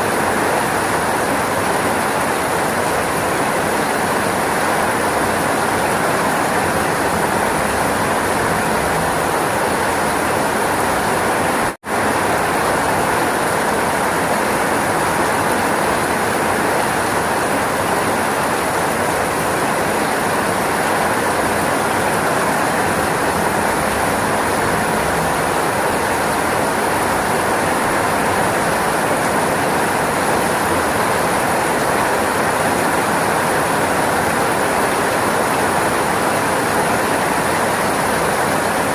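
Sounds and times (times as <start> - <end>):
dense rainfall hiss: 0.0 - 38.9.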